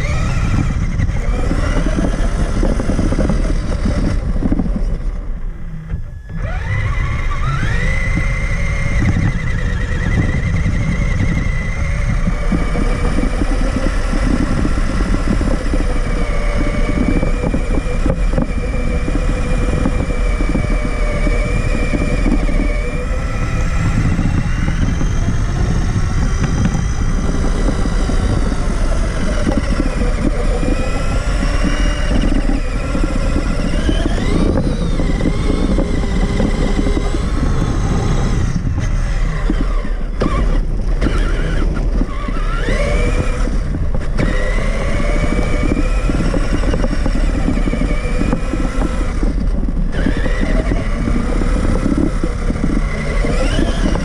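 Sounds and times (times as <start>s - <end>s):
electric motor whine: 0.0s - 54.0s
low rumble: 0.0s - 54.0s.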